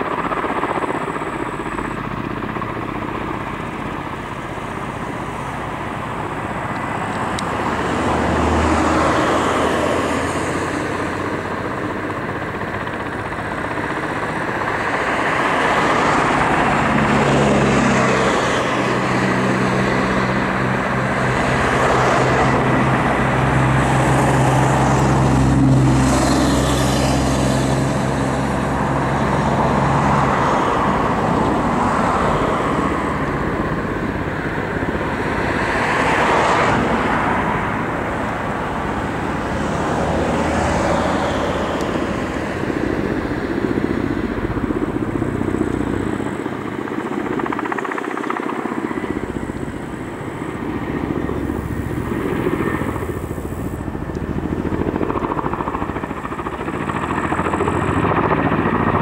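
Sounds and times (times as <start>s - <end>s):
helicopter in flight: 0.0s - 59.0s.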